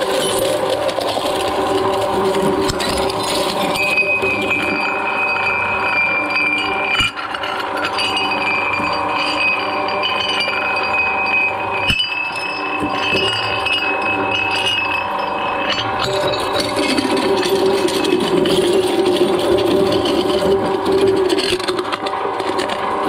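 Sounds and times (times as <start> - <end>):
glass cracking and clinking: 0.0 - 22.8
high ringing: 1.6 - 21.6.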